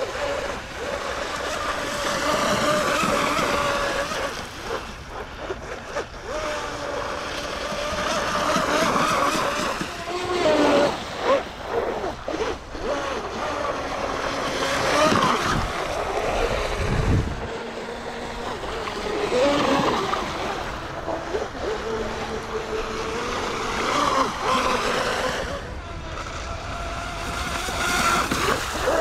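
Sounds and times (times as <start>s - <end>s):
model boat motor whining: 0.0s - 29.0s
water splashing: 0.0s - 29.0s
wind on microphone: 0.0s - 29.0s.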